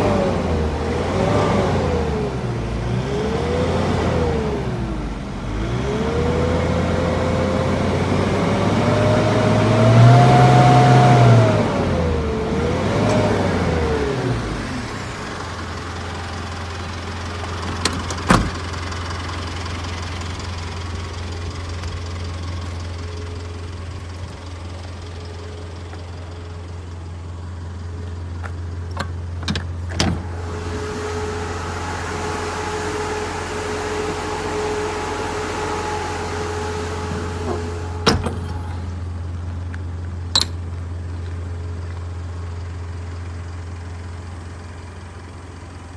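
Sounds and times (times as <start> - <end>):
truck engine revving and idling: 0.0 - 45.9.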